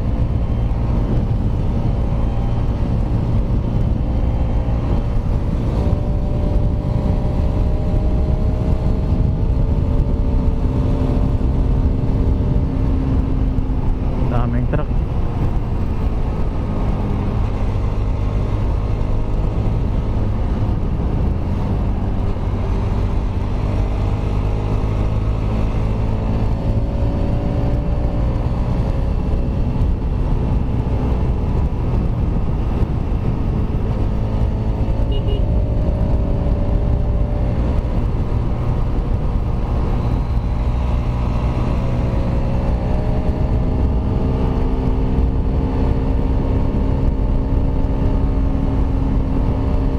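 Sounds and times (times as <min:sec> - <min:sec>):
motorcycle engine accelerating: 0:00.0 - 0:49.9
wind and road noise: 0:00.0 - 0:49.9.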